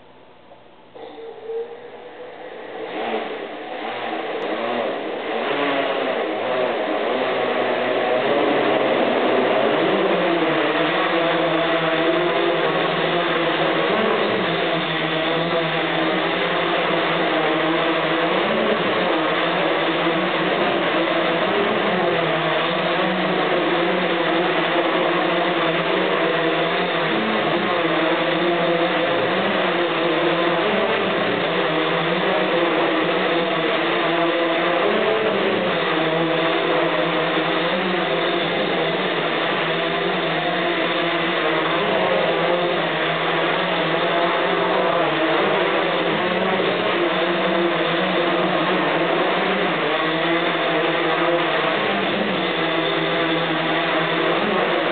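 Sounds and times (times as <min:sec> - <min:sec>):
drone propellers whirring: 0:01.0 - 0:54.9.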